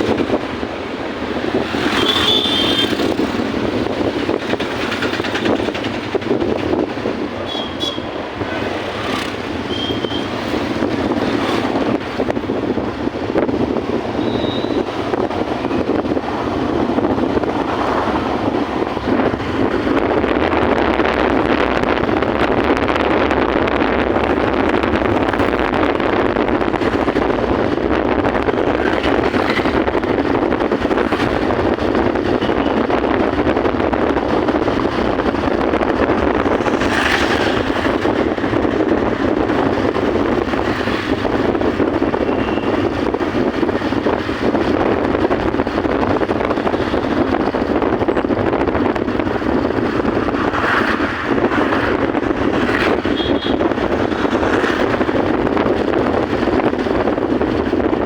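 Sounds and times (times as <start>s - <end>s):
moving train running: 0.0s - 58.0s
wind buffeting microphone: 0.0s - 58.0s.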